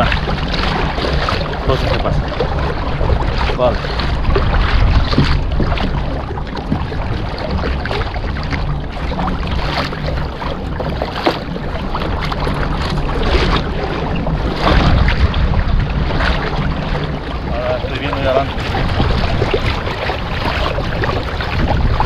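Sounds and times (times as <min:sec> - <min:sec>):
water splashing against hull: 0:00.0 - 0:22.0
wind buffeting microphone: 0:00.0 - 0:22.0.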